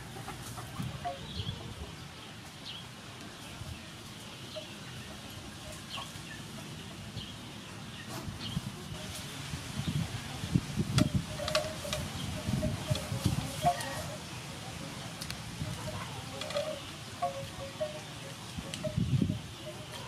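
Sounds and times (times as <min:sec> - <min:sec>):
chickens peeping: 0:00.0 - 0:20.0
faint background noise: 0:00.0 - 0:20.0.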